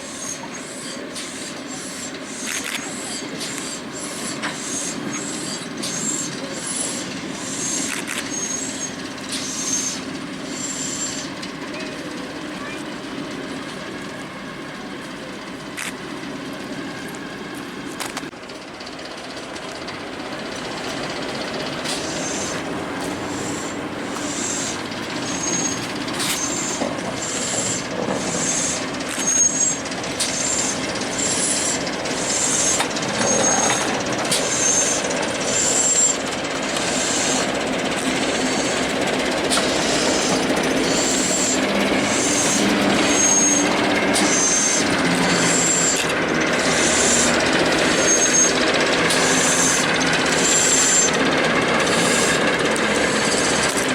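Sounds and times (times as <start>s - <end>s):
high wheel squeals: 0.0s - 13.0s, 20.2s - 53.9s
train wheels clicking over rail joints: 0.0s - 53.9s.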